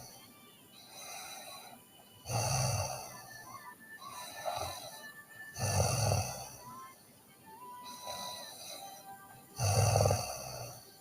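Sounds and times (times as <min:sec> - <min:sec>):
quiet breaths: 0:00.0 - 0:11.0
girl snoring: 0:00.8 - 0:07.0, 0:07.8 - 0:11.0.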